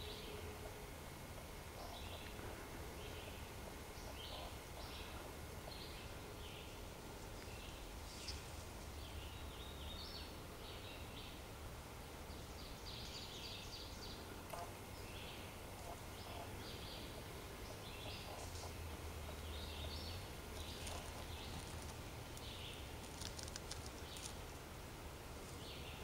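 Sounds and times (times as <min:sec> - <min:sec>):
low steady rumble: 0:00.0 - 0:26.0
songbirds chirping: 0:00.0 - 0:26.0.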